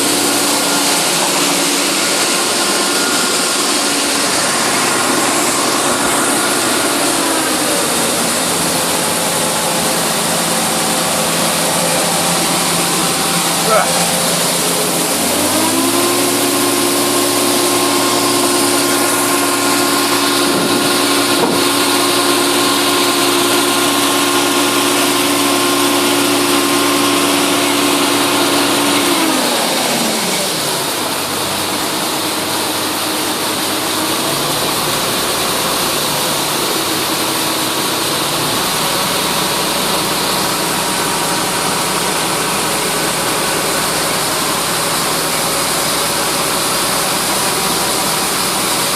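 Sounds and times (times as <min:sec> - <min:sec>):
combine harvester running: 0:00.0 - 0:48.9
machine whine: 0:00.0 - 0:48.9.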